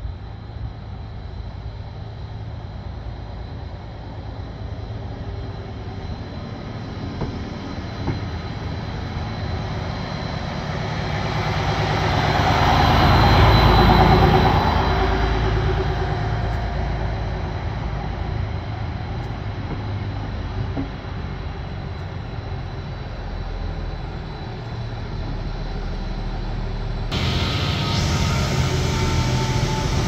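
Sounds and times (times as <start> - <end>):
diesel train engine: 0.0 - 30.0
train cars rumbling on rails: 0.0 - 30.0.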